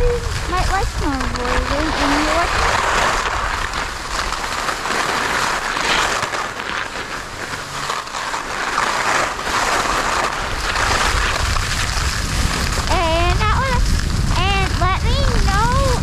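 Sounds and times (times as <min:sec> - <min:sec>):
skis scraping over packed snow: 0:00.0 - 0:16.0
wind noise on microphone: 0:00.0 - 0:16.0.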